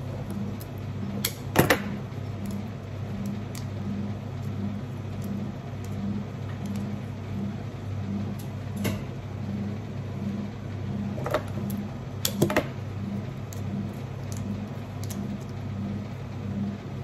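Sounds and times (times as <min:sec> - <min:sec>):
pulsing low electrical hum: 0:00.0 - 0:17.0.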